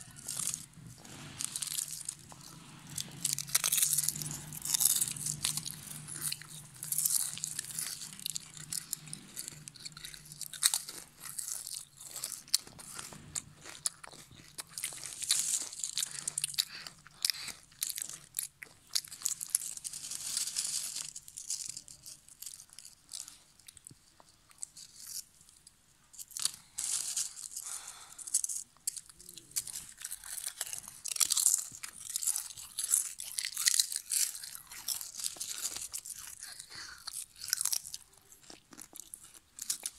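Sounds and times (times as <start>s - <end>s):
potato chips crunching: 0.0s - 39.9s.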